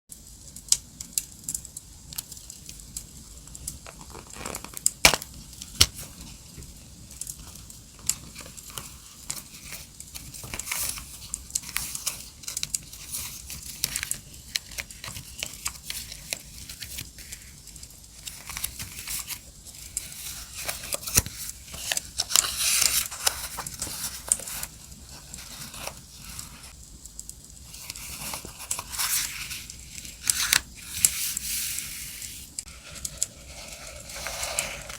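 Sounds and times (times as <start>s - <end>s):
paper crinkling and rustling: 3.6s - 26.8s, 27.6s - 34.9s.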